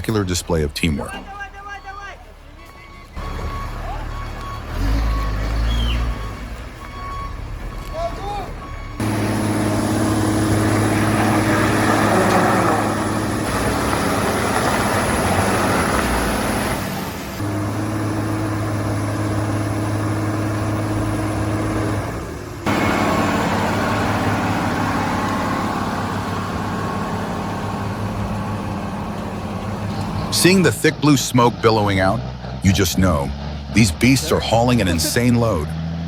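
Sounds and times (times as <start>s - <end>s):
heavy truck engines running: 0.0s - 36.0s.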